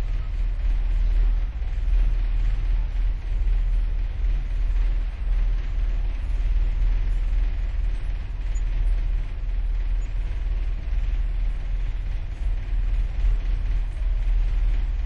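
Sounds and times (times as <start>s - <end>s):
ferry engine rumble: 0.0s - 15.0s.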